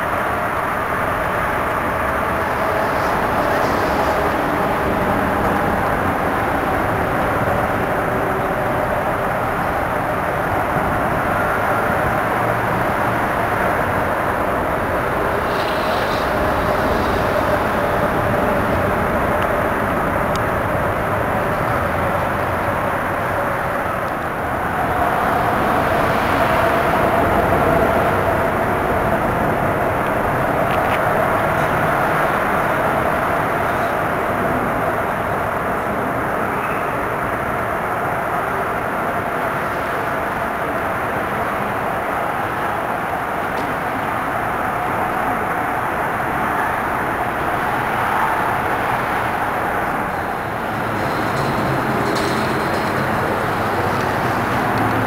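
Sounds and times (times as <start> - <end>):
outdoor rumble and hiss: 0.0 - 55.0
excavator diesel engine running: 0.1 - 35.3, 43.9 - 55.0.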